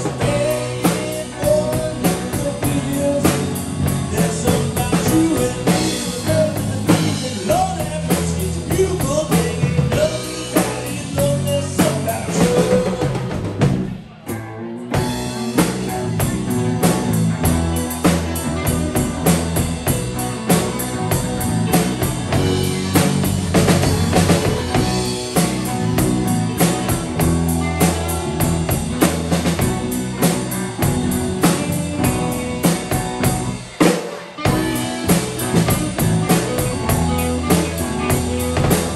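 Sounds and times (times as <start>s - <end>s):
bass: 0.0s - 38.9s
drum kit: 0.0s - 38.9s
electric guitars: 0.0s - 38.9s
keyboards: 0.0s - 38.9s.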